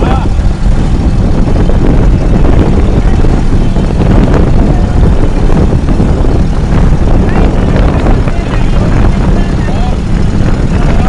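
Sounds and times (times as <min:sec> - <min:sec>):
motorboat engine rumbling: 0:00.0 - 0:11.0.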